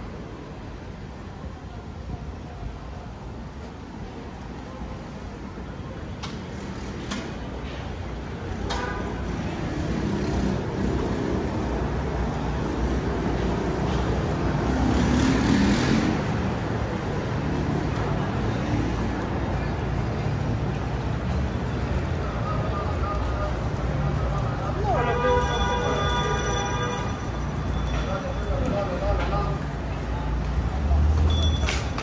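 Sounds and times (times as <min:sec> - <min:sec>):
city street traffic rumble: 0:00.0 - 0:32.0.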